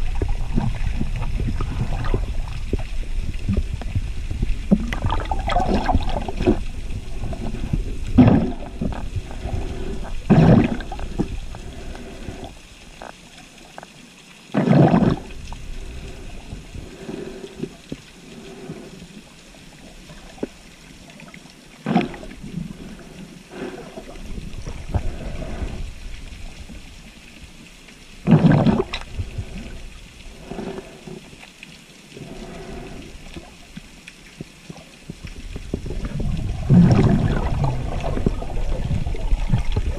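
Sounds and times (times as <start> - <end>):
underwater low rumble: 0.0 - 39.9
water rushing gushes: 0.0 - 39.9.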